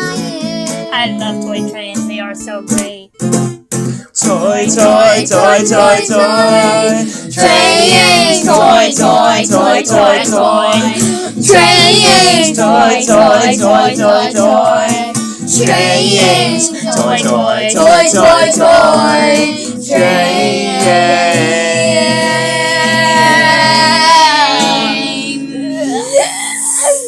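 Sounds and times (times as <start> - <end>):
loud backing track: 0.0 - 25.2
person singing wavering melody: 4.5 - 27.0.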